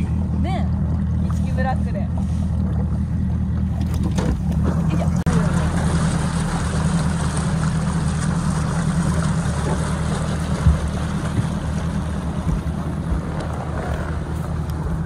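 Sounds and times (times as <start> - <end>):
outboard motor running: 0.0 - 15.0
water and wind noise: 0.0 - 15.0.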